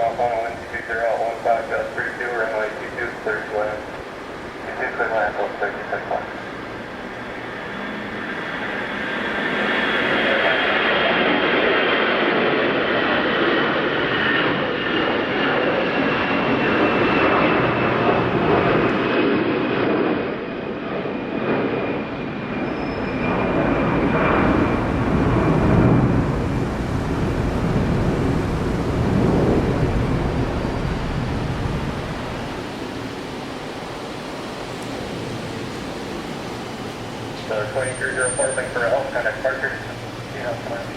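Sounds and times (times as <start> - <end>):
jet engines whining and rumbling: 0.0 - 40.9.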